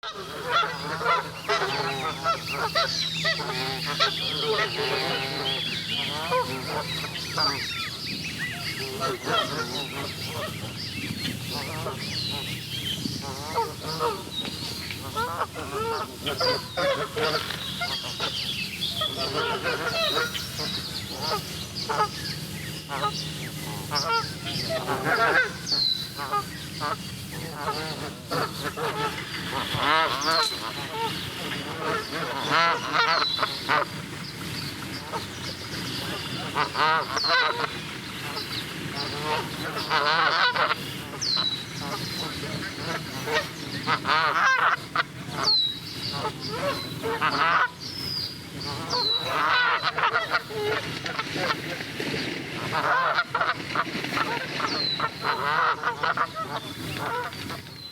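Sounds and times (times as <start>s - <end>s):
geese honking: 0.0s - 57.9s.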